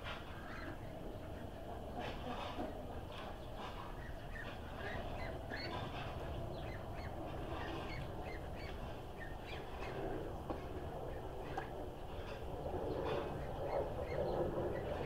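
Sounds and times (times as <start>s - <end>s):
steady low rumble: 0.0s - 15.0s
ducklings peeping: 0.2s - 12.4s.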